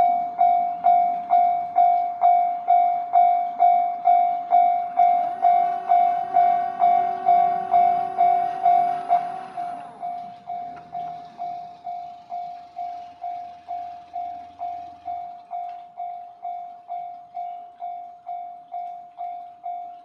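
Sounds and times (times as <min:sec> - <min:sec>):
approaching train noise: 0:00.0 - 0:20.0
level crossing warning bell: 0:00.0 - 0:20.0.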